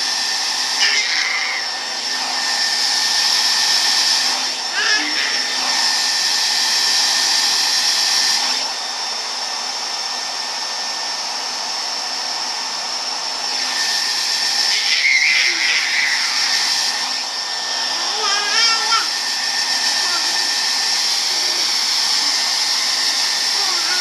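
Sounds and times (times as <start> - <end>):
hair dryer blowing: 0.0 - 24.0.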